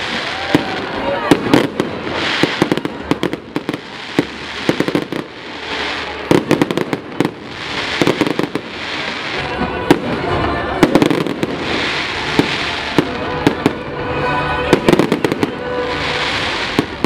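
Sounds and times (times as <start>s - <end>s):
crackling hiss: 0.0s - 17.0s
fireworks bangs and pops: 0.0s - 17.0s.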